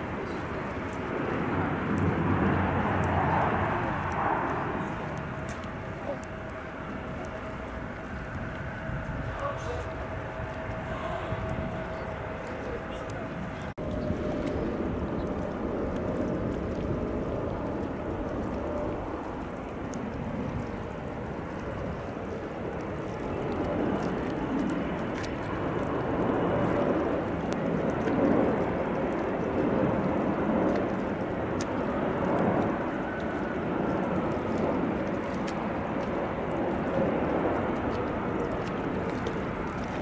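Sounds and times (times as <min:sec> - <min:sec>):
engine whine: 0:00.0 - 0:40.0
jet engines rushing: 0:00.0 - 0:40.0.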